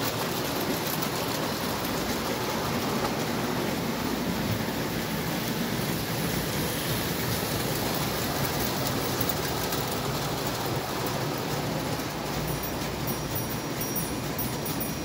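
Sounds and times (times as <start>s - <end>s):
electric locomotive motor: 0.0s - 15.0s
model train wheels on rails: 0.0s - 15.0s.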